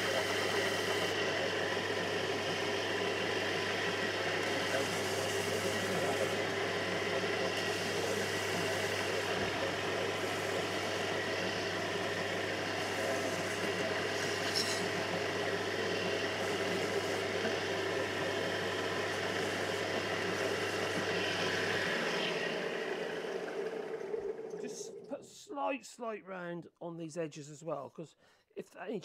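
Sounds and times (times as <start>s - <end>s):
belt sander humming: 0.0s - 25.0s.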